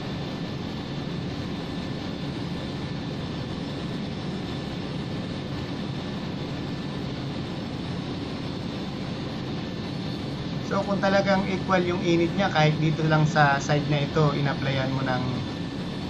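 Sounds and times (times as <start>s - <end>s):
torch flame rushing: 0.0s - 16.0s.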